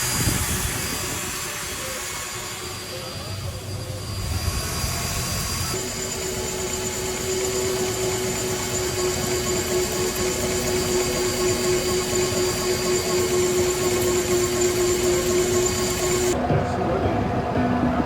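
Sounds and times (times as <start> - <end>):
machine mechanical hum: 0.0 - 18.0
thin high whine: 0.0 - 18.0.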